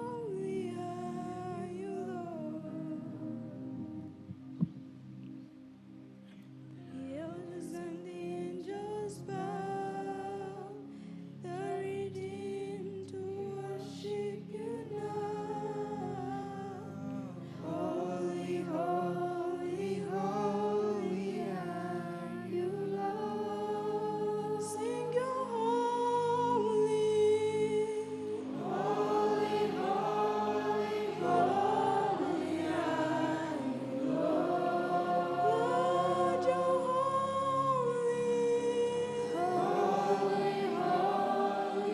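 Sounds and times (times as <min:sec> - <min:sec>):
voices singing slow song: 0:00.0 - 0:04.6, 0:06.3 - 0:41.9.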